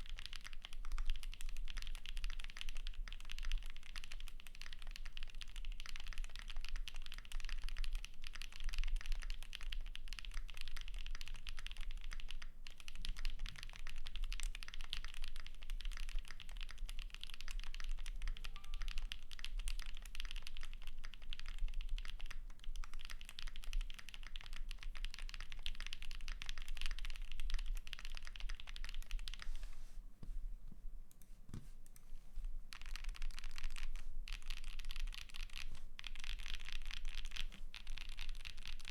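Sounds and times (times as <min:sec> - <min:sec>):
mechanical keyboard typing: 0:00.0 - 0:29.6, 0:32.7 - 0:38.9.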